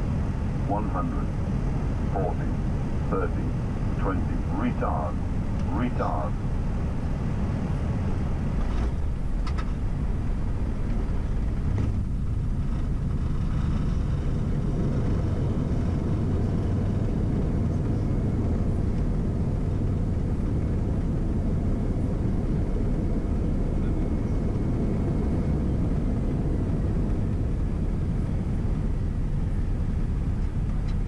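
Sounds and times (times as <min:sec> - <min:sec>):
airliner low rumble: 0:00.0 - 0:31.0.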